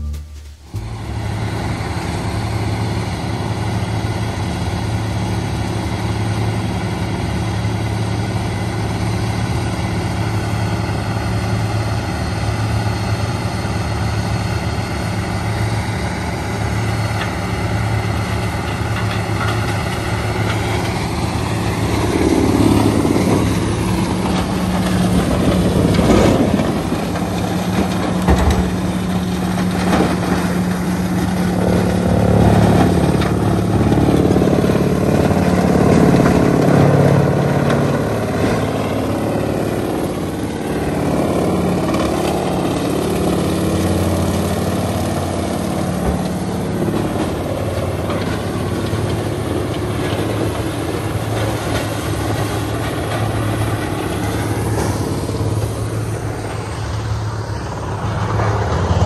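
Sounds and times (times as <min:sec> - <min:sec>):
heavy diesel engines running: 0:00.0 - 0:59.0
wood crunching in grinder: 0:00.0 - 0:59.0.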